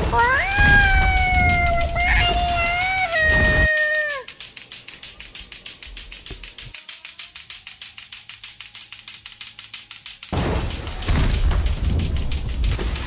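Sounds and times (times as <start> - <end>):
clacker balls knocking together: 0.1 - 13.0.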